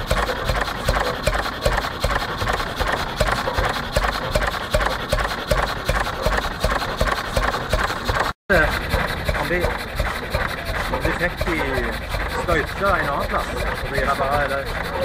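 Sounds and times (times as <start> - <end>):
petrol engine running: 0.0 - 15.0.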